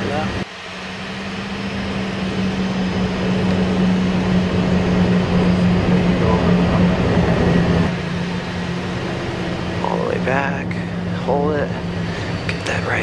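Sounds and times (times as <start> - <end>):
airflow rushing: 0.0 - 13.0
jet engines low hum: 0.0 - 13.0.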